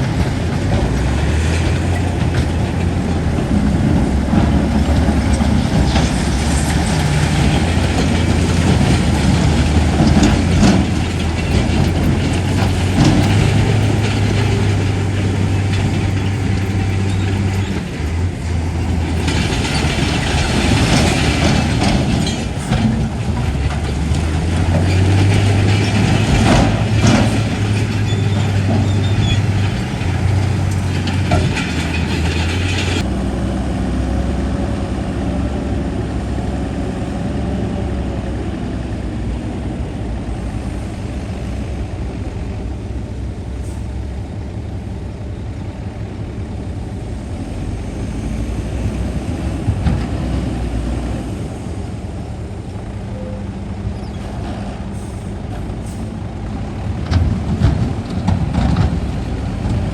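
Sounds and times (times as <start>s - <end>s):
steel tracks rattling and clanking: 0.0s - 37.9s, 45.5s - 59.9s
diesel engine running: 0.0s - 59.9s.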